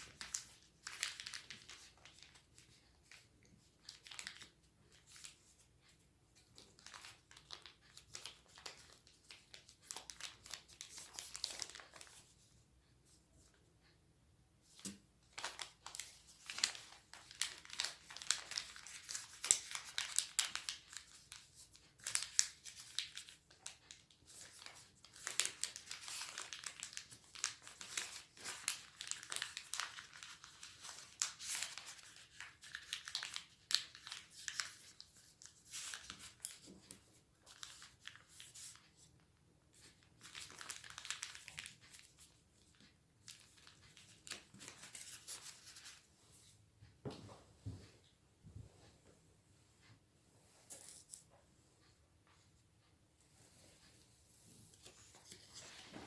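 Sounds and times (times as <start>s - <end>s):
paper crinkling and rustling: 0.0s - 12.5s, 14.7s - 46.4s, 54.6s - 56.0s.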